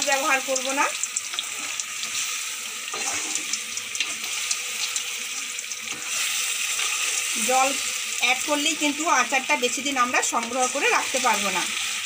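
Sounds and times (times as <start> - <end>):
fruit and sugar sizzling in a pan: 0.0 - 12.0.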